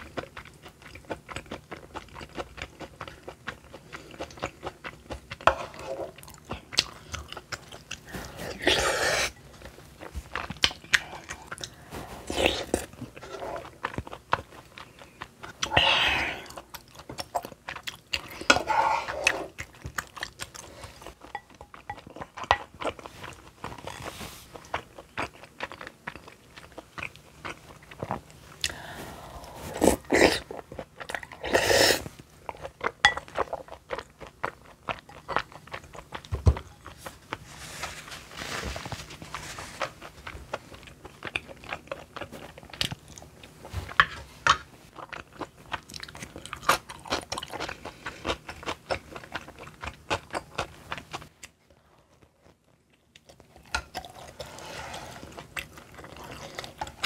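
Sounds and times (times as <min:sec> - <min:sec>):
person chewing and swallowing: 0:00.0 - 0:37.4, 0:39.1 - 0:57.0.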